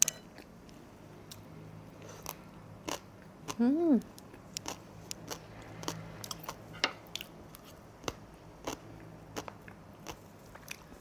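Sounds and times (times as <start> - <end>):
low steady hum: 0.0 - 11.0
person chewing food: 1.3 - 11.0.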